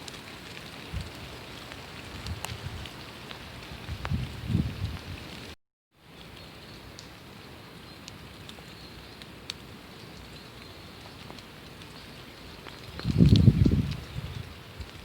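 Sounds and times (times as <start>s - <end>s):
raindrops ticking: 0.0s - 5.6s, 6.2s - 15.0s
rain falling: 0.0s - 15.0s.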